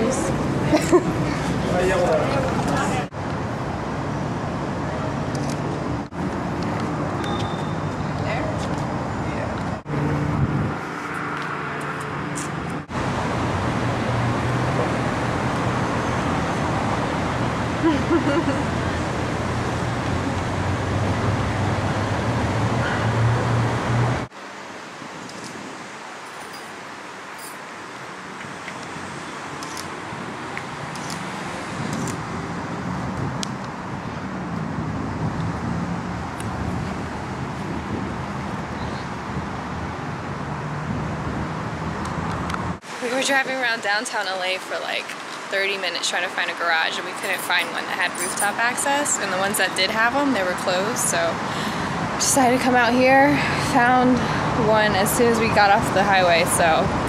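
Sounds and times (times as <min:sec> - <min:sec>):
traffic noise: 0:00.0 - 0:57.0.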